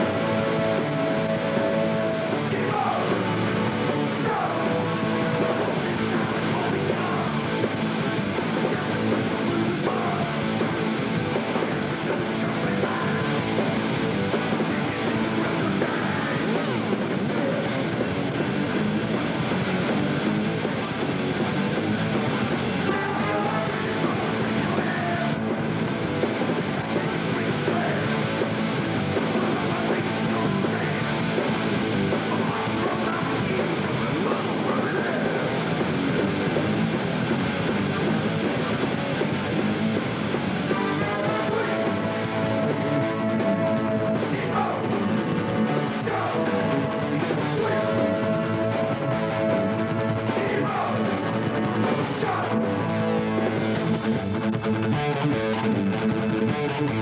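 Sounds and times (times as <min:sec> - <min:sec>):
rock music with guitar: 0:00.0 - 0:57.0.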